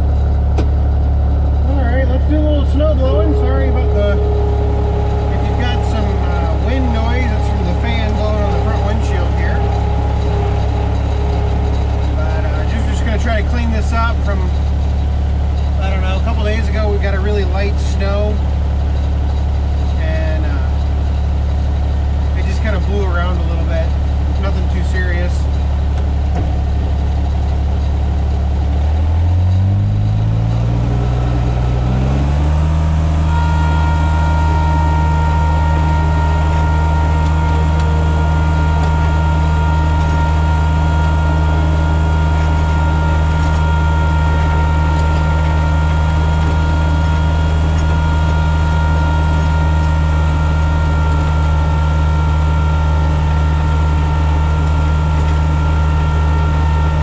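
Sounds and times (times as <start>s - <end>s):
steady high whine: 0.0s - 29.4s, 30.1s - 57.0s
diesel engine revving: 0.0s - 57.0s.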